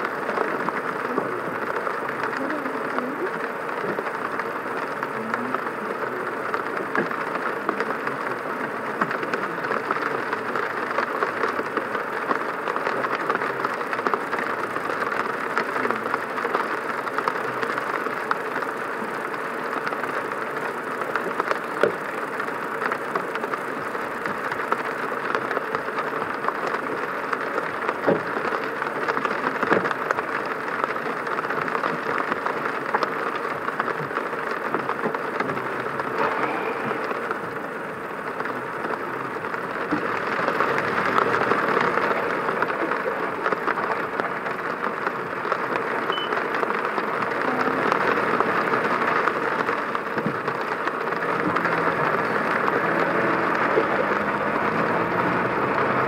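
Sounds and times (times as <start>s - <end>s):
car road and engine noise: 0.0s - 56.0s
rain spattering on car: 0.0s - 56.0s.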